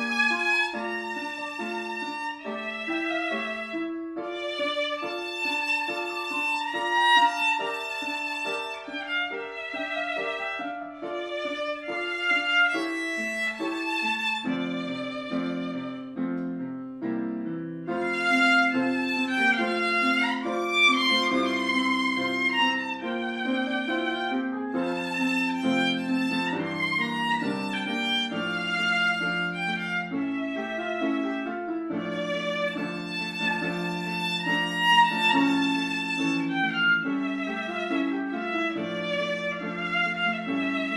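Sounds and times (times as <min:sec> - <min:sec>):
violin melody: 0:00.0 - 0:40.9.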